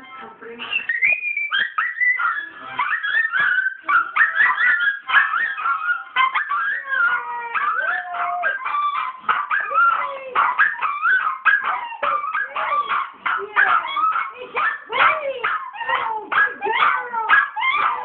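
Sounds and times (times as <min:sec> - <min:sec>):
dogs howling and yipping: 0:00.9 - 0:18.0.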